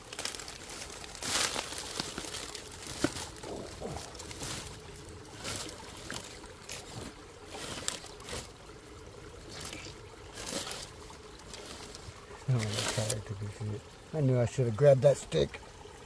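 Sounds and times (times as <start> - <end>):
twigs and leaves crackling: 0.0 - 13.3
creek water trickling: 0.0 - 16.0.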